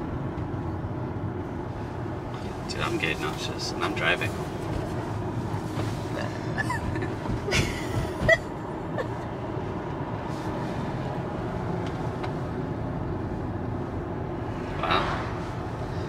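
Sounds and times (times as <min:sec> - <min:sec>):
tyre and wind noise in car: 0:00.0 - 0:16.0.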